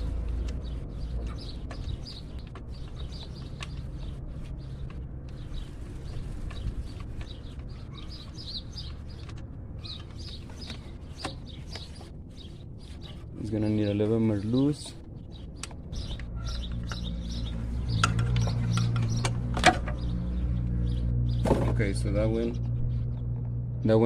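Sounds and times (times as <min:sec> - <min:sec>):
low steady rumble: 0:00.0 - 0:24.0
small birds chirping: 0:00.0 - 0:24.0.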